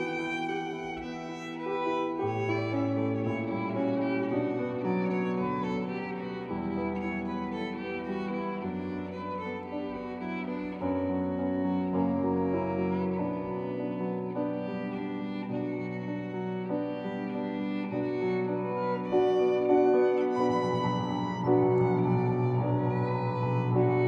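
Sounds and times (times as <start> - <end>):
string orchestra playing slowly: 0.0 - 24.0.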